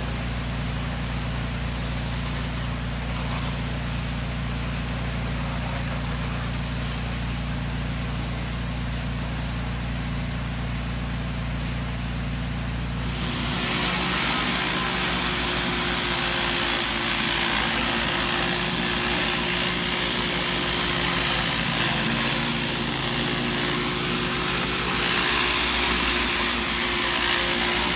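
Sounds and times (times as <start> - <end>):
pressure washer engine running: 0.0 - 27.9
surface cleaner jets hissing on brick: 0.0 - 27.9
water spraying: 0.0 - 27.9.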